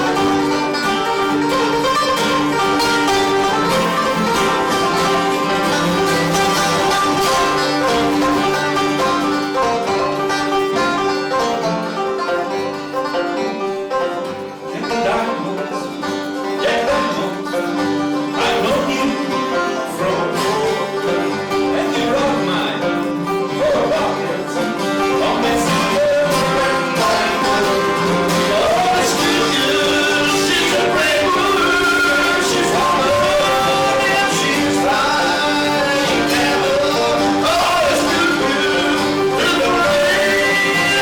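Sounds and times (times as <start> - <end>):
banjo and guitar folk music: 0.0 - 41.0.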